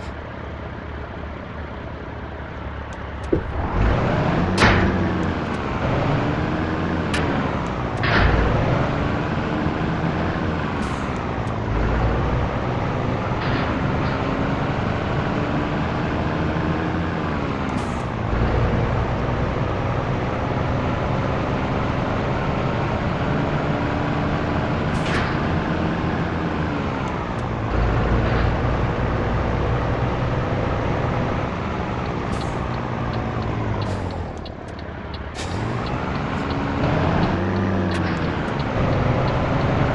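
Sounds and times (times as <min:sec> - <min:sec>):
truck diesel engine accelerating: 0:00.0 - 0:39.9.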